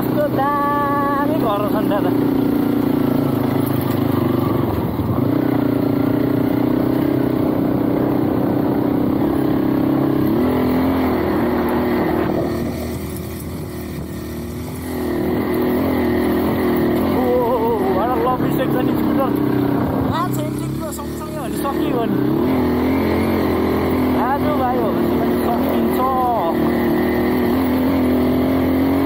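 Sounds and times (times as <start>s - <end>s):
motorbike engine running: 0.0s - 29.0s.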